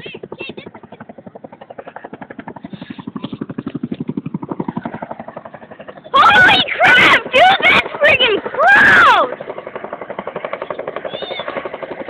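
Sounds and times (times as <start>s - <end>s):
helicopter rotor blades beating: 0.0s - 12.0s.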